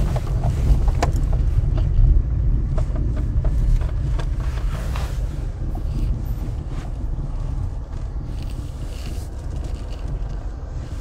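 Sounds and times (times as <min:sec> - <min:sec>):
car driving slowly over grass: 0:00.0 - 0:11.0.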